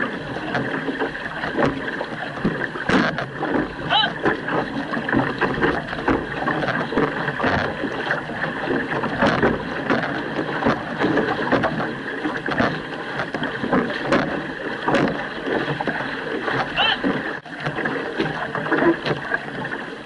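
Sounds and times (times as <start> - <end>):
paddles stroking through water: 0.0 - 20.0
water rushing along hull: 0.0 - 20.0.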